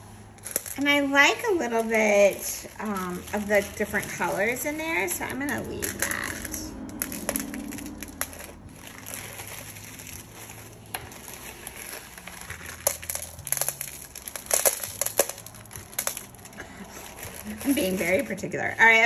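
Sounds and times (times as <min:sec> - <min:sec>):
plastic bag handled: 0:00.0 - 0:19.0.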